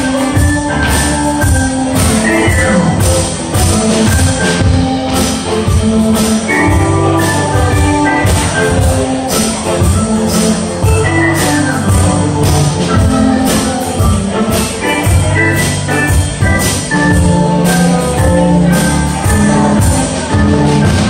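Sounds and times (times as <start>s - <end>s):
fiddle playing a tune: 0.0s - 21.0s
keyboard playing: 0.0s - 21.0s
percussion beat: 0.0s - 21.0s.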